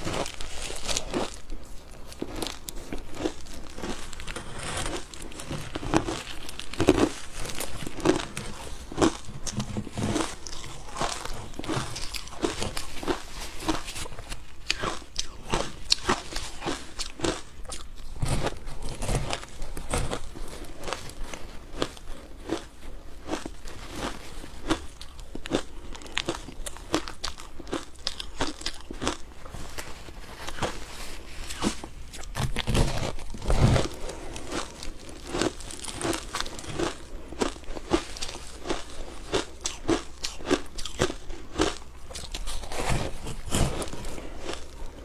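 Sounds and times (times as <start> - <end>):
ice being chewed: 0.0 - 45.0.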